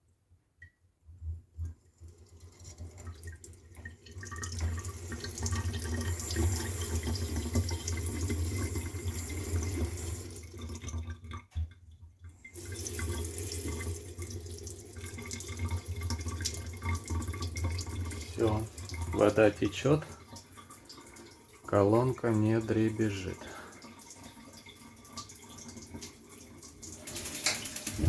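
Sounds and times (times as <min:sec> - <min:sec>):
tap running water into sink: 0:02.5 - 0:11.8, 0:12.4 - 0:28.0.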